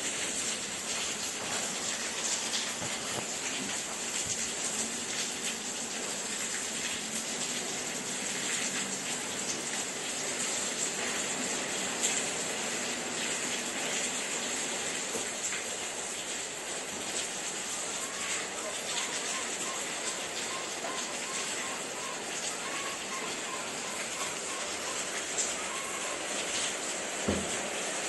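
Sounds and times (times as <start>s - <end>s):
rain falling on wet ground: 0.0s - 28.0s.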